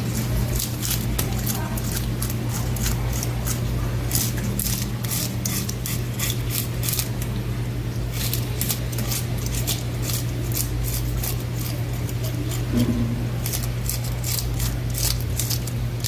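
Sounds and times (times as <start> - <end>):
knife scraping fish: 0.0 - 7.2, 8.1 - 16.0.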